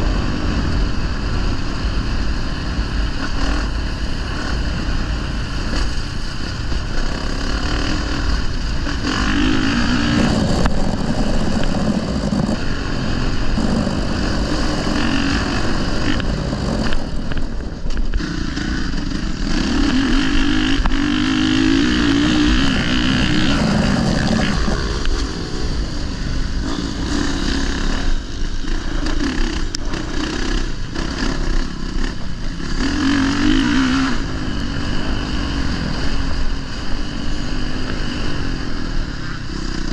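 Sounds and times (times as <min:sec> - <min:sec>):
motorbike engine revving: 0:00.0 - 0:39.9
wind noise: 0:00.0 - 0:39.9.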